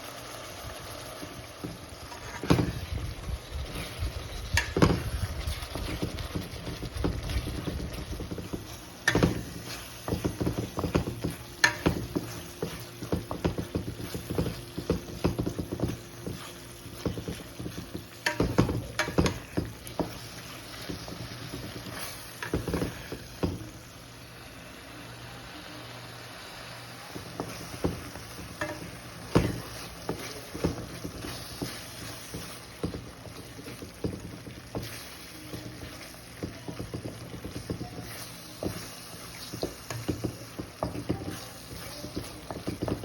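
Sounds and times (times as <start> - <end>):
utensil knocking and scraping pot: 1.6 - 23.8, 27.1 - 43.0.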